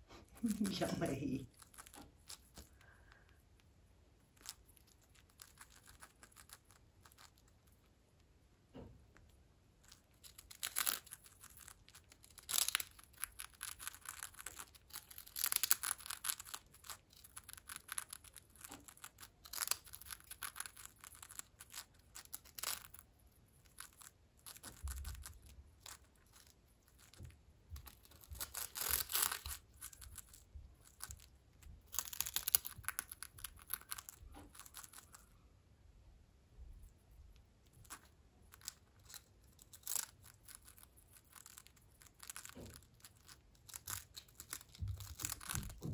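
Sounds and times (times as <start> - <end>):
parrot crunching a cracker: 0.1 - 35.4, 37.6 - 45.9.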